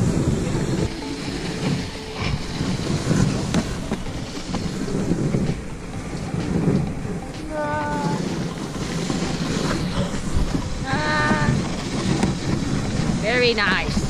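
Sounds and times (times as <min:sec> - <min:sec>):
sled rattling and clicking: 0:00.0 - 0:14.0
sled runners scraping on snow: 0:00.0 - 0:14.0.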